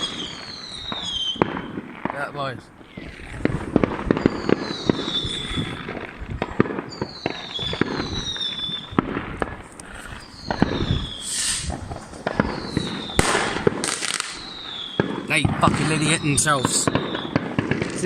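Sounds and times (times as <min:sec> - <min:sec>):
fireworks bangs: 0:00.0 - 0:18.0
hissing crackling firework burst: 0:00.0 - 0:18.0
whistling fireworks: 0:00.0 - 0:18.0.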